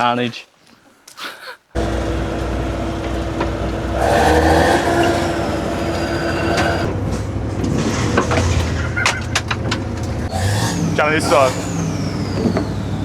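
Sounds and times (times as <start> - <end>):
combine harvester diesel engine: 1.8 - 13.0.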